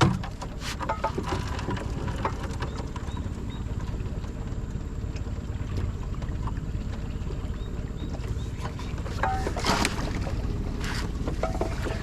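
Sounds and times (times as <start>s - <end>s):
small boat engine idling: 0.0s - 12.0s.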